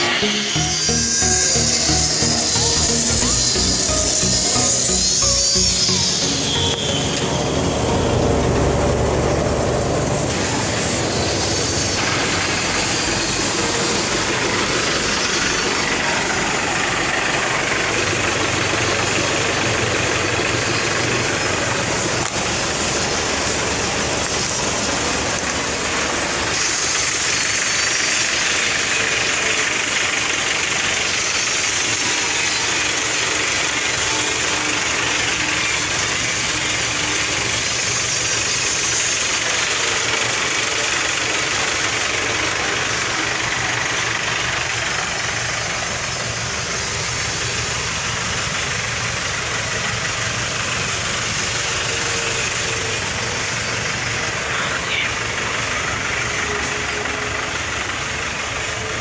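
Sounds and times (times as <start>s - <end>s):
engine running: 0.0s - 59.0s
hiss: 9.9s - 59.0s.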